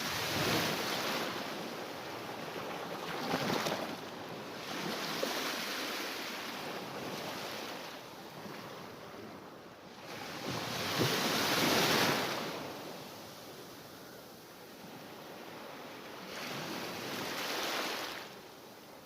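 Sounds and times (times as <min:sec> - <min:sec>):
small waves washing ashore: 0:00.0 - 0:19.0.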